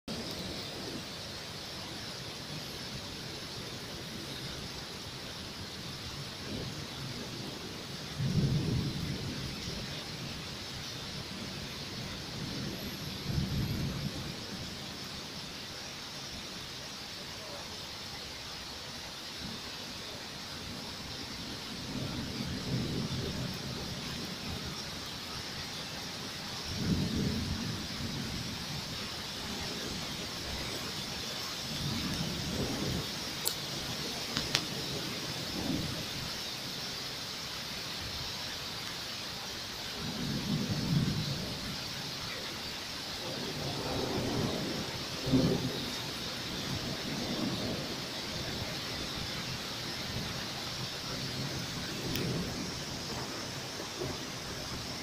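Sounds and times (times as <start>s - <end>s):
thunder rumbling: 0.1s - 15.4s, 20.6s - 36.9s, 39.9s - 55.0s
heavy rain hissing: 0.1s - 55.0s.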